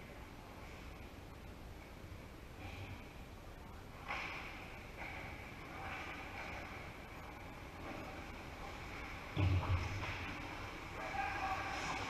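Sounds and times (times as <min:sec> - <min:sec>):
ice rink background hum: 0:00.0 - 0:12.0.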